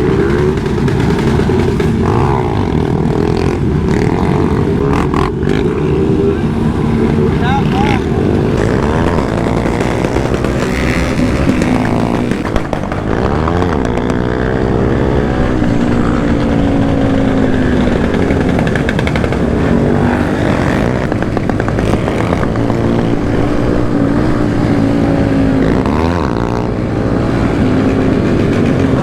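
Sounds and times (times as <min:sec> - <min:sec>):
motorcycle engine running steadily: 0:00.0 - 0:29.0
motorcycle engines revving: 0:00.0 - 0:29.0.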